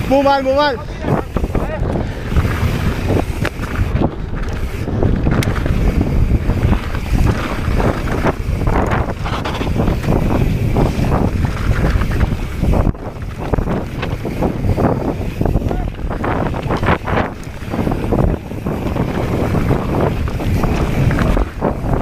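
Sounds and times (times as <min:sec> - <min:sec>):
bike rattling and knocking: 0:00.0 - 0:22.0
tyres running over gravel: 0:00.0 - 0:22.0
wind buffeting microphone: 0:00.0 - 0:22.0.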